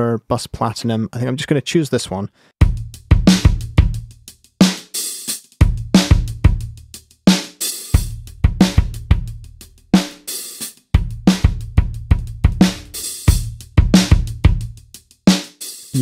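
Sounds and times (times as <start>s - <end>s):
drum kit playing: 2.6s - 16.0s.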